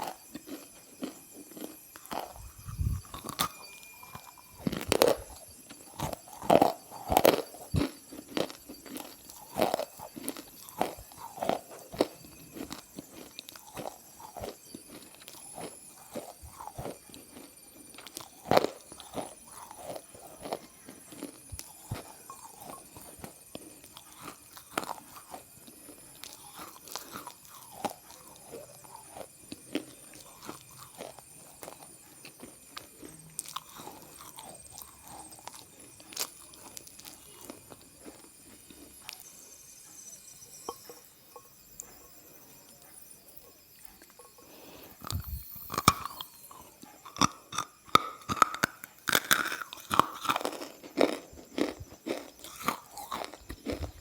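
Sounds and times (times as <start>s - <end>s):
soft crunching and crackling: 0.0s - 40.0s, 40.7s - 54.0s.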